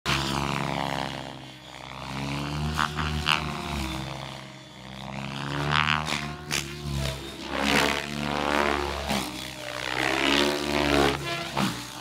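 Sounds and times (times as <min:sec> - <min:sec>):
model helicopter motor and rotor whine: 0:00.1 - 0:12.0.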